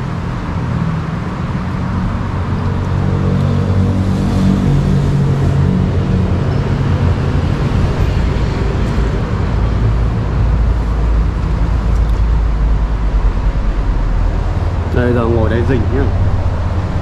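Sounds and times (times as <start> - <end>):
deep rumble: 0.0 - 17.0
traffic rumble: 0.0 - 17.0
vehicle engine hum: 0.0 - 17.0.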